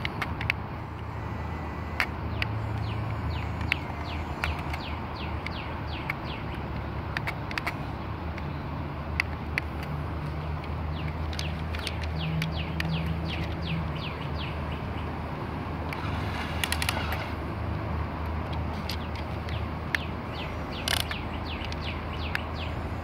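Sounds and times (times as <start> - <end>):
cluster of clicks: 0.0 - 15.2, 15.8 - 17.4, 18.2 - 22.9
birds chirping: 0.0 - 17.6, 18.4 - 23.0
toy excavator motor humming: 0.0 - 17.6, 18.5 - 23.0.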